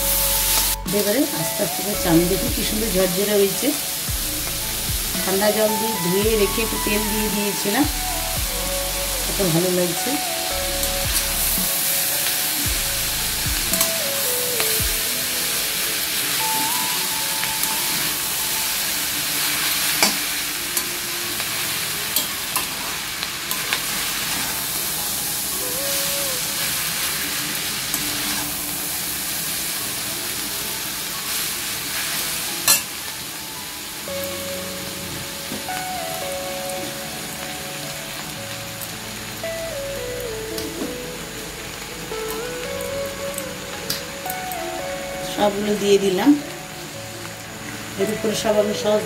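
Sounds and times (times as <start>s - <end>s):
noodles sizzling in a wok: 0.0s - 49.0s.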